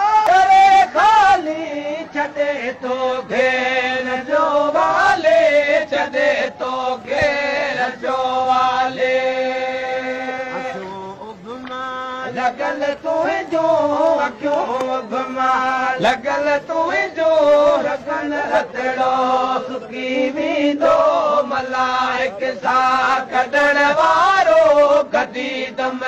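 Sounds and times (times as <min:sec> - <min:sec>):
men chanting: 0:00.0 - 0:26.0.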